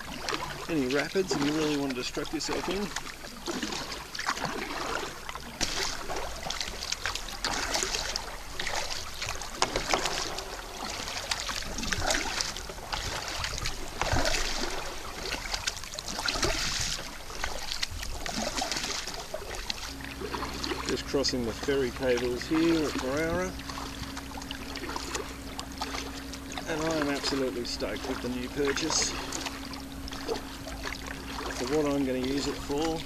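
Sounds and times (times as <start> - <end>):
kayak paddle strokes in water: 0.0 - 33.0
water splashing and dripping: 0.0 - 33.0.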